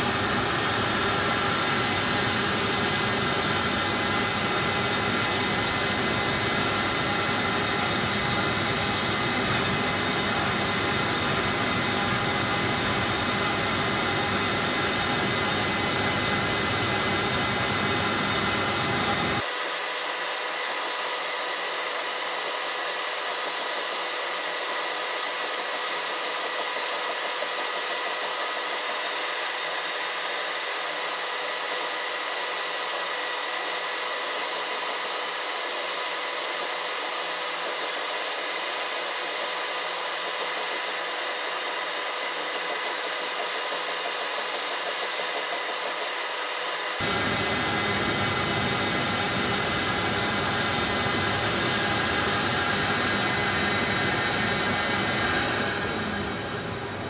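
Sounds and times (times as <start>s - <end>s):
milling machine spindle whine: 0.0s - 57.0s.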